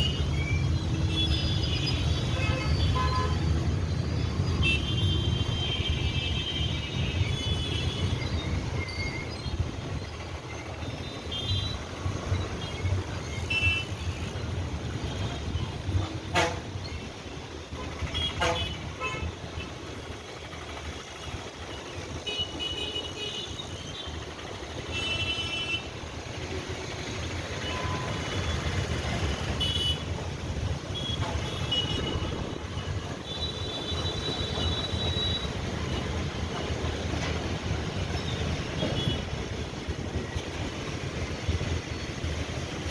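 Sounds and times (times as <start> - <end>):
traffic rumble: 0.0 - 42.9.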